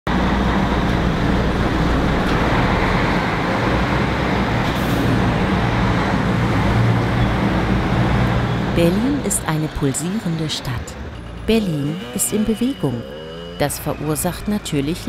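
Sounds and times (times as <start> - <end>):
cars going by: 0.1 - 15.0
road noise: 0.1 - 15.0
truck driving past: 0.1 - 15.0.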